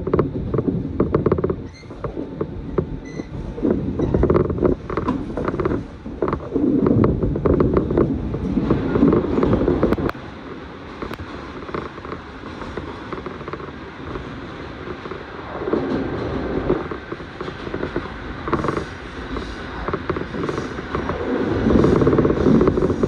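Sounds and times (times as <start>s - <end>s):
carriage creaks and rattles: 0.0s - 10.2s, 10.9s - 23.0s
train wheels rumbling on rails: 0.0s - 23.0s.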